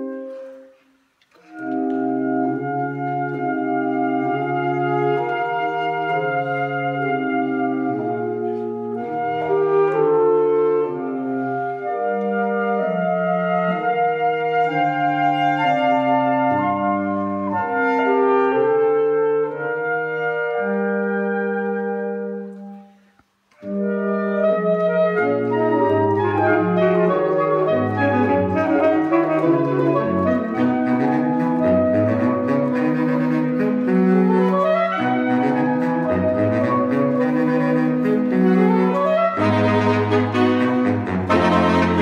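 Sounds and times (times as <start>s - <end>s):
saxophone quartet playing: 0.0s - 42.0s.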